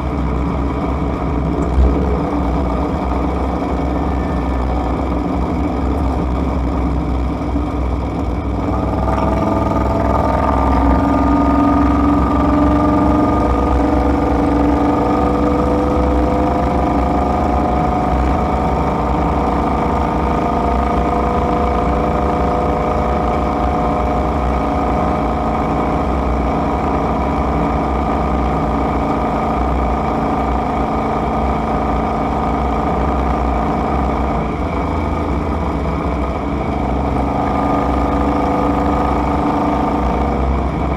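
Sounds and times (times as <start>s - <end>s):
engine tones climbing: 0.0s - 40.9s
road rumble inside car: 0.0s - 40.9s.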